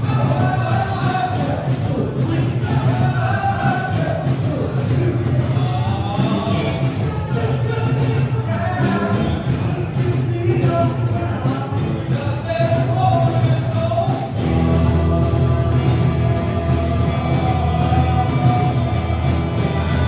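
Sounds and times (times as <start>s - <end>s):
live band playing: 0.0s - 20.0s
person singing: 0.0s - 20.0s
steady drum beat: 0.0s - 20.0s.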